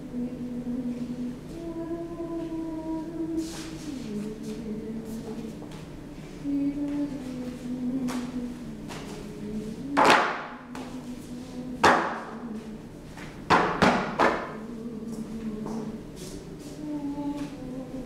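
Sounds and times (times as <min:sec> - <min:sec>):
person humming: 0:00.0 - 0:05.6, 0:06.4 - 0:10.1, 0:10.7 - 0:12.9, 0:14.5 - 0:18.0.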